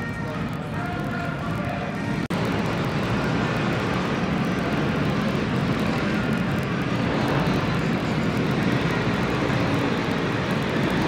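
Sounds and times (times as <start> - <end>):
exhibition hall din: 0.0 - 11.0.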